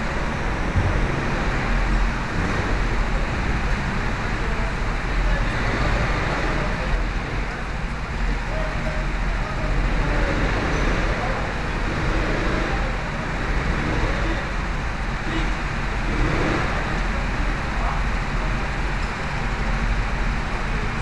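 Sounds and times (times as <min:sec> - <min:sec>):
go-kart engines idling: 0:00.0 - 0:21.0.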